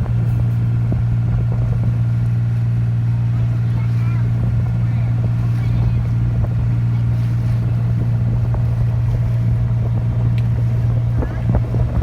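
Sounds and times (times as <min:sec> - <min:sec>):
boat engine running: 0:00.0 - 0:12.0
water rushing: 0:00.0 - 0:12.0
wind: 0:00.0 - 0:12.0.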